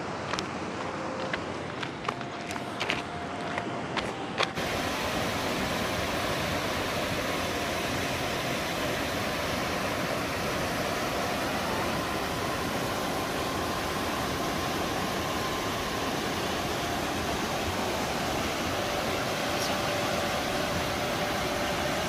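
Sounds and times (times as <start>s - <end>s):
floodwater rushing over rapids: 0.0s - 22.0s.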